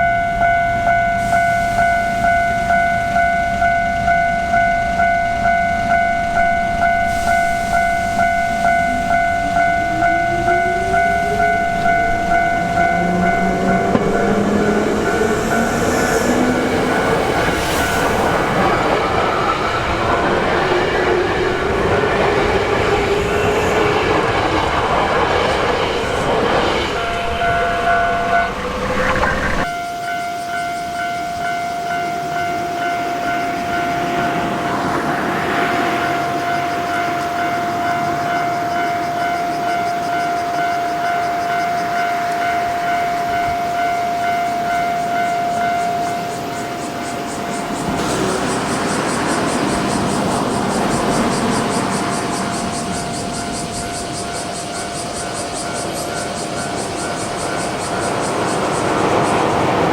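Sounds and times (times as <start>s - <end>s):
train wheel rumble and clatter: 0.0s - 29.8s, 32.0s - 59.9s
level-crossing warning bell ringing: 0.0s - 59.9s
train motor whine: 0.0s - 59.9s.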